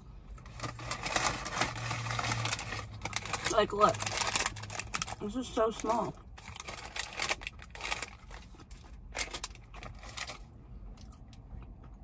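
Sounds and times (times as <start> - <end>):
paper bag crinkling: 0.4 - 10.5.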